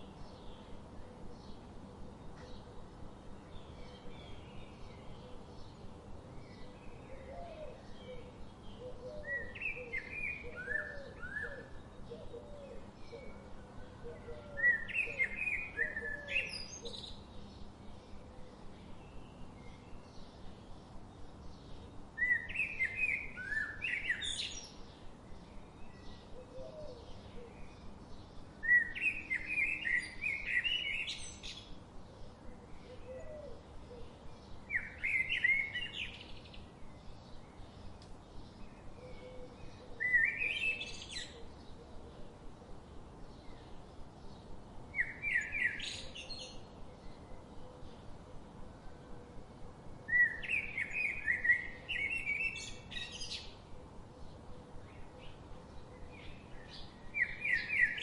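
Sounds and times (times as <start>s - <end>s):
bird singing bright song phrase: 3.4s - 42.2s, 43.2s - 48.0s, 50.1s - 58.0s.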